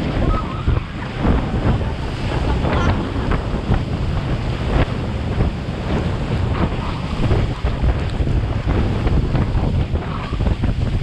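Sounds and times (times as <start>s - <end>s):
rushing spraying water: 0.0s - 11.0s
water splashes: 0.0s - 11.0s
wind buffeting microphone: 0.0s - 11.0s.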